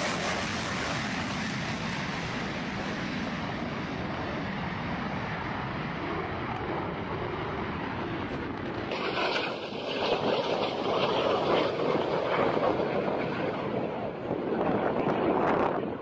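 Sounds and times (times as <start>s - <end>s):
fighter jet engine roar: 0.0s - 16.0s.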